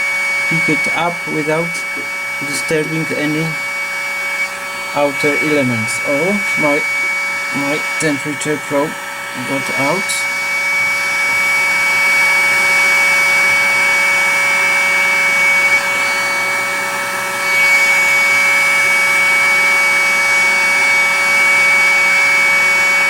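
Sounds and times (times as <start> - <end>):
hot-air blower whining: 0.0 - 23.0.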